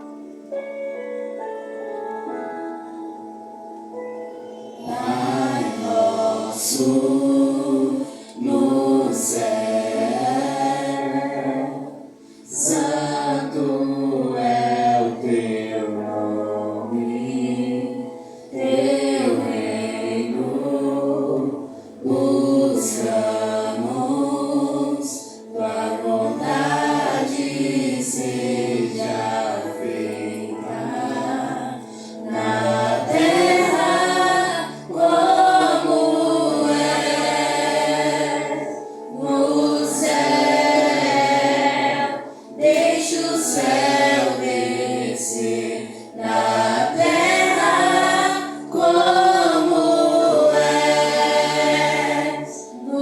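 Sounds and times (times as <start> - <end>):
group singing worship song: 3.8 - 53.0.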